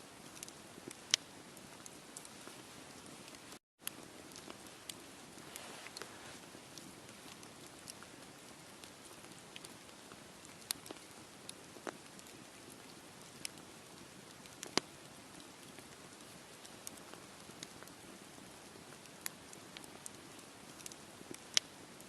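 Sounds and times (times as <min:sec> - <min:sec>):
campfire crackling: 0:00.1 - 0:22.0
burning wood popping: 0:00.2 - 0:21.9.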